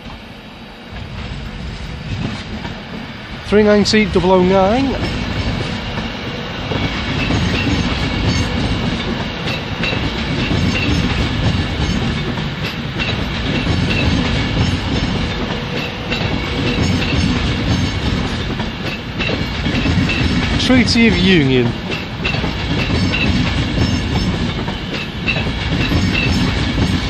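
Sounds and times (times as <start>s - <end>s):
train wheels clattering: 0.0s - 27.0s.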